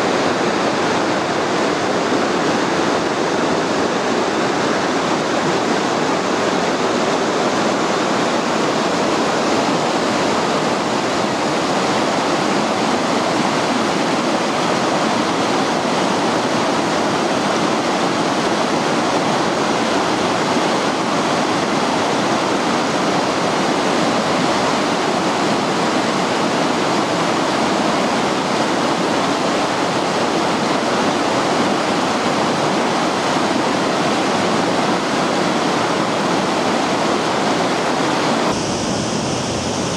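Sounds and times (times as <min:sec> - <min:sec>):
river rushing over boulders: 0:00.0 - 0:39.9.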